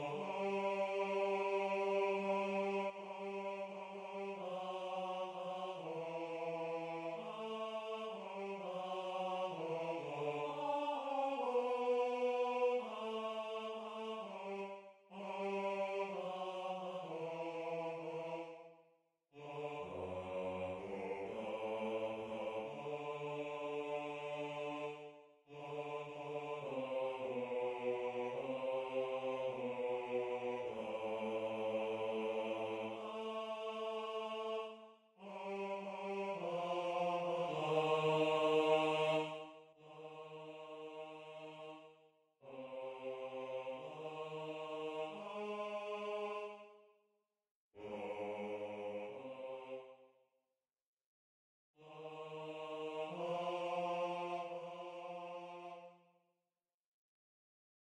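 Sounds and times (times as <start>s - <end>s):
synthesized choir singing: 0.0s - 47.0s, 47.8s - 50.2s, 51.8s - 56.2s.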